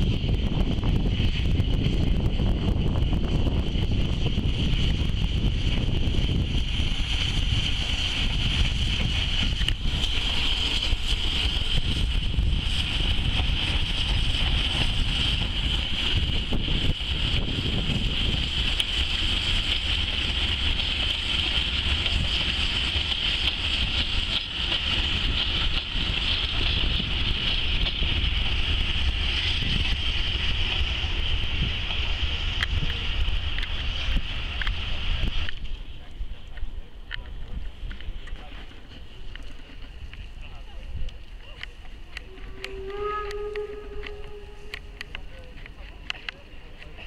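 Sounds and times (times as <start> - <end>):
distant steam train passing: 0.0 - 47.0
wind buffeting microphone: 0.0 - 47.0.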